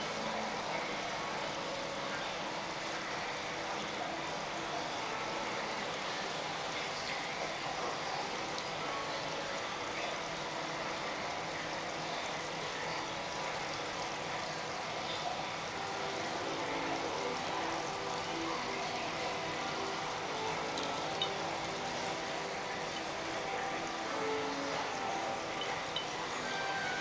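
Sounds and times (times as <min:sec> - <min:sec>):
water bubbling and rushing: 0:00.0 - 0:27.0.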